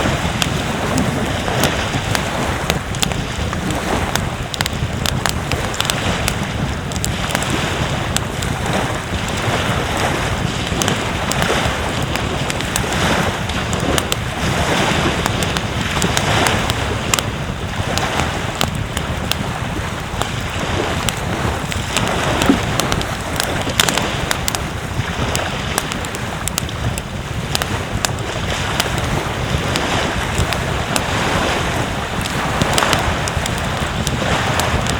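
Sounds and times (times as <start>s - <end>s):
surf washing on beach: 0.0s - 34.9s
wind buffeting microphone: 0.0s - 34.9s
sharp little crackles: 0.3s - 34.9s.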